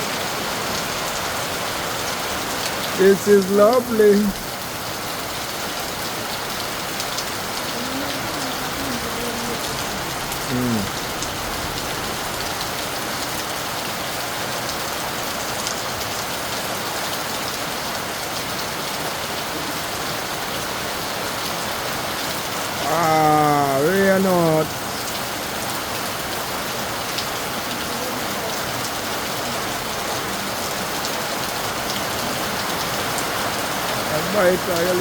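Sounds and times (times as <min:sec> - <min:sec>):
rain on a roof: 0:00.0 - 0:35.0.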